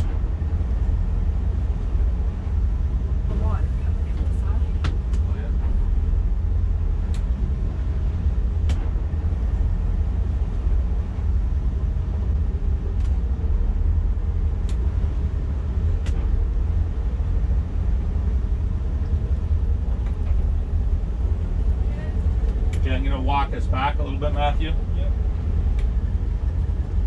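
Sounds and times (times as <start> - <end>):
boat engines rumbling: 0.0 - 27.0.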